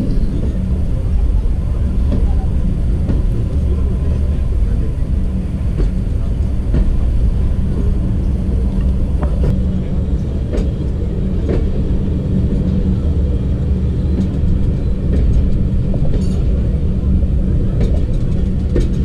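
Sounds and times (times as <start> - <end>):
constant hum: 0.0 - 19.0
train wheels rumbling on rails: 0.0 - 19.0.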